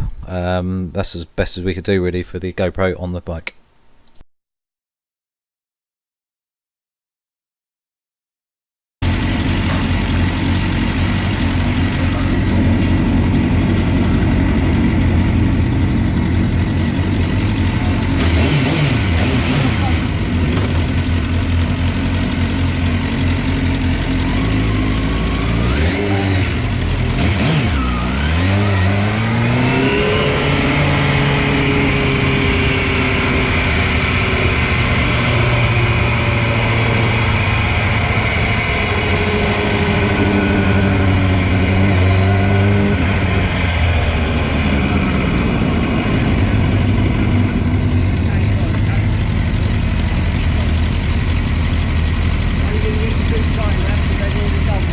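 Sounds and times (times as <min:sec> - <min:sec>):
motorcycle engine revving: 0:09.0 - 0:54.9.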